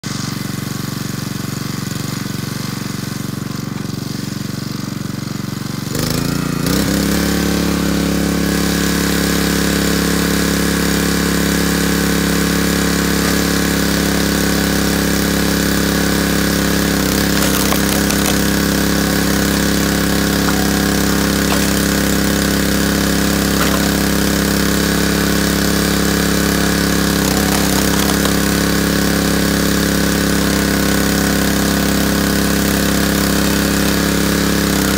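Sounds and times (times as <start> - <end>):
small gas engine running: 0.1 - 34.9.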